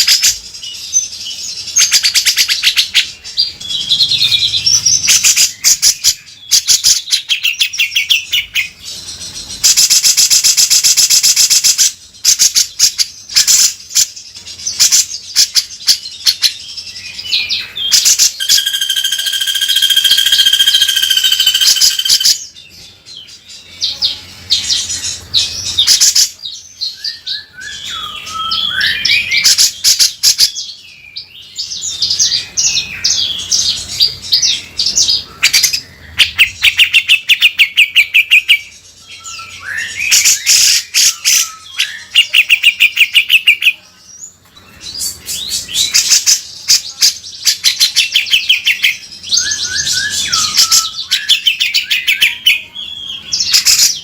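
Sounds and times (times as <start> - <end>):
bulbul singing: 0.0 - 54.0.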